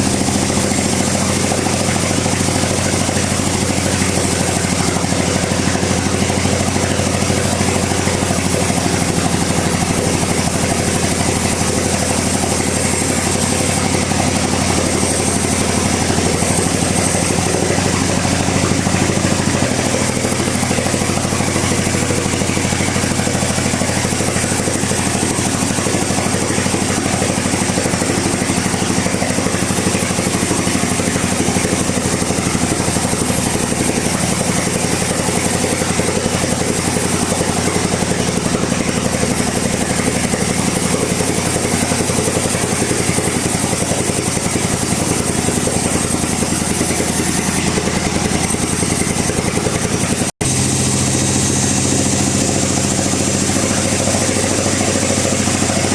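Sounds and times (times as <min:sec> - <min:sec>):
bandsaw cutting log: 0:00.0 - 0:55.9.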